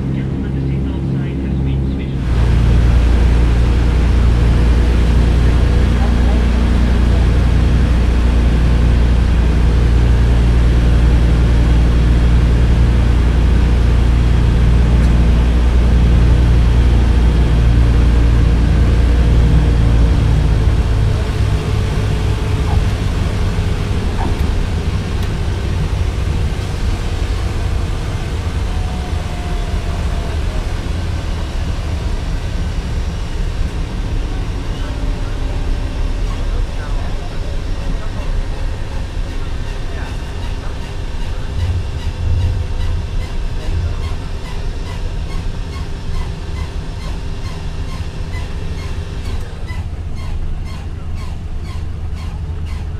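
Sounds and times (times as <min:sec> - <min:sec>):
aircraft engines droning in cabin: 0:00.0 - 0:52.9.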